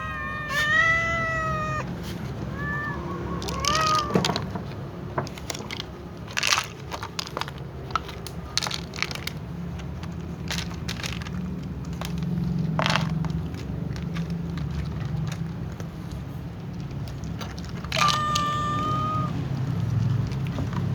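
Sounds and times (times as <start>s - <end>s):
cats crunching dry food: 0.0s - 20.9s.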